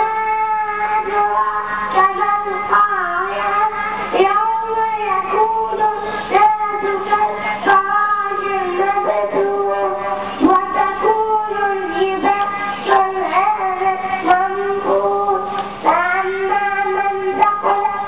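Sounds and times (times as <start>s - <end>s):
child singing into a microphone: 0.0s - 18.0s.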